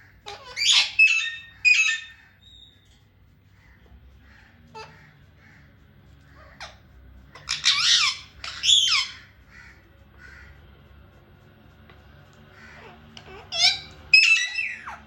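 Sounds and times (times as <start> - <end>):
parrot calling: 0.0 - 10.6, 12.3 - 15.0.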